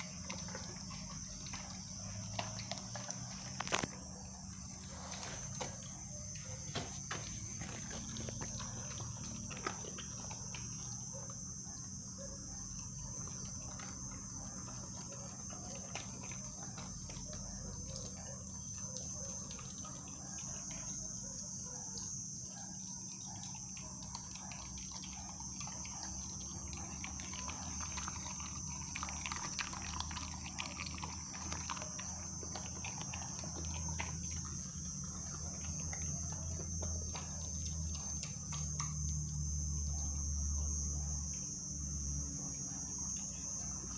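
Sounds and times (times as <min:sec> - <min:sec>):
crickets trilling: 0:00.0 - 0:43.9
puppy chewing and crunching bone: 0:00.0 - 0:43.9.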